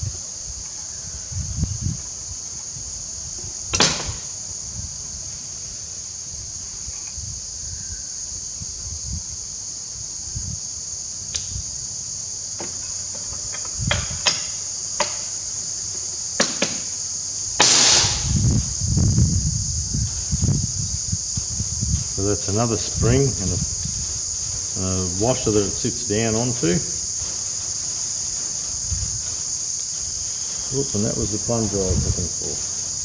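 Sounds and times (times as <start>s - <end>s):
high-pitched hiss: 0.0s - 33.0s.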